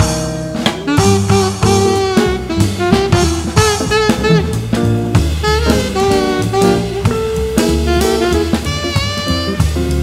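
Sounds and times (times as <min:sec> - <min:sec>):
alto saxophone jazz melody: 0:00.0 - 0:10.0
drum kit: 0:00.0 - 0:10.0
upright double bass: 0:00.0 - 0:10.0.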